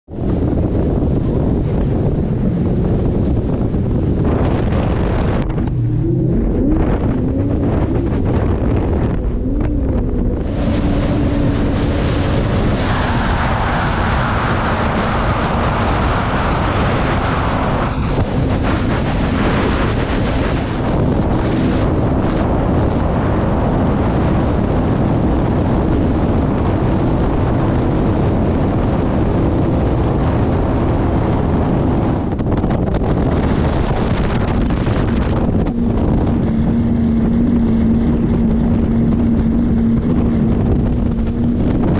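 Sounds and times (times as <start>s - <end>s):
wind noise on microphone: 0.0s - 41.9s
outboard engines running: 0.1s - 41.9s
water rushing off hull: 0.2s - 41.9s.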